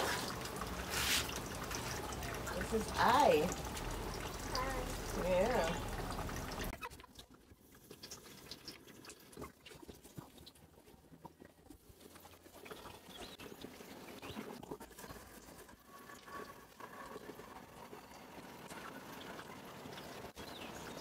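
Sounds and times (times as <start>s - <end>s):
water sloshing and dripping: 0.0s - 21.0s.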